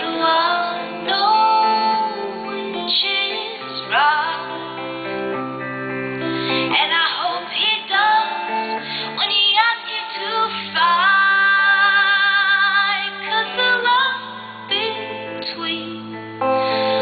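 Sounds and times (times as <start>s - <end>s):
woman singing: 0.0s - 5.4s, 6.2s - 17.0s
instrumental backing: 0.0s - 17.0s.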